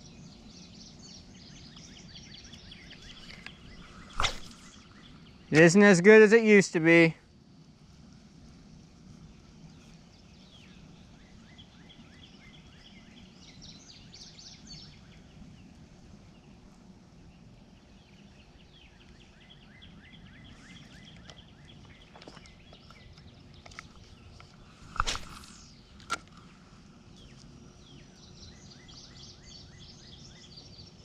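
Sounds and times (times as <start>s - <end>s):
birds chirping: 0.0s - 7.1s, 9.2s - 31.0s
low steady hum: 0.0s - 31.0s.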